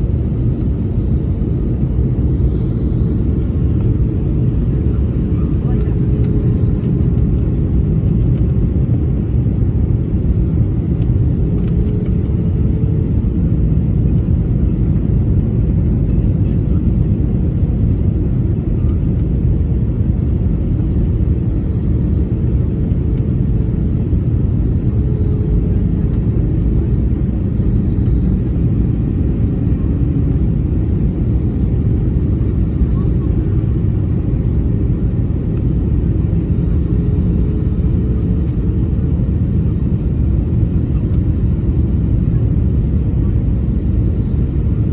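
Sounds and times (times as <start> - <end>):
airliner engines rumbling: 0.0 - 44.9.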